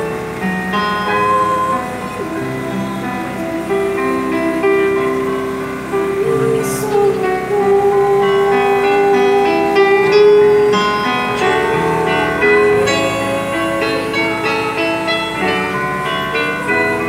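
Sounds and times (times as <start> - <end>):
keyboard accompaniment: 0.0 - 17.0
woman singing into microphone: 0.0 - 17.0.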